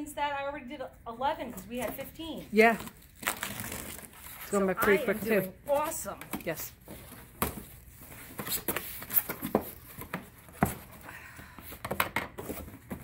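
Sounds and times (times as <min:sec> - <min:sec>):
records and boxes being handled: 0:01.6 - 0:13.0.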